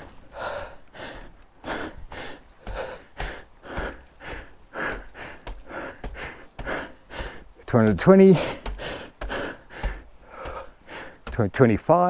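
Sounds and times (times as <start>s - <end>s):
person panting: 0.0s - 11.4s
faint low thumps: 1.9s - 11.6s.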